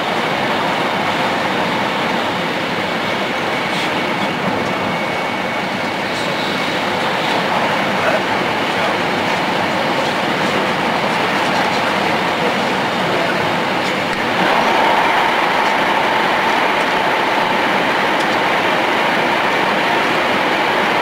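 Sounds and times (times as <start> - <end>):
high-speed train running: 0.0 - 21.0.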